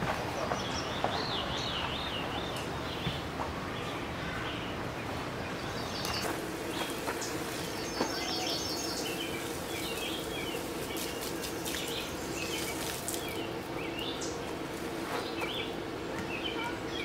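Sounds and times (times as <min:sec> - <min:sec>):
background hiss: 0:00.1 - 0:16.2
small birds chirping: 0:00.3 - 0:17.0.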